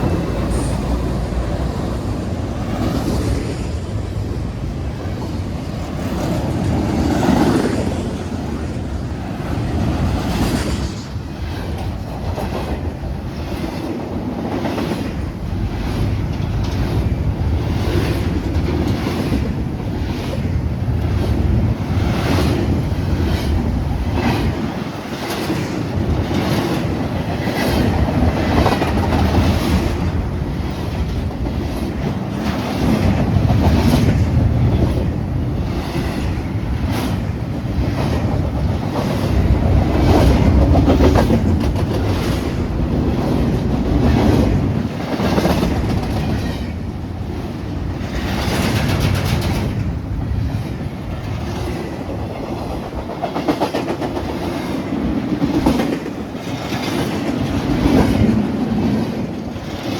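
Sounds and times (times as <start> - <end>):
train wheels clacking on rails: 0.0 - 59.9.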